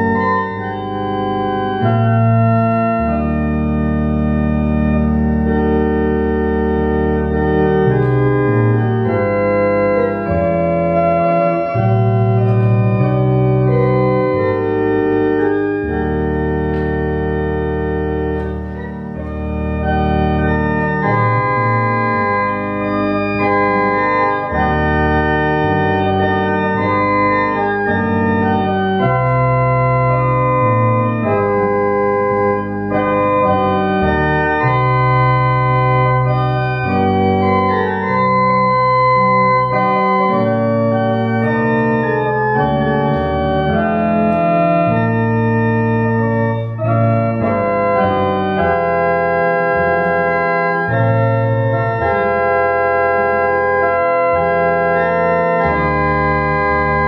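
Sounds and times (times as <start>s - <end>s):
church organ playing a hymn: 0.0s - 57.0s.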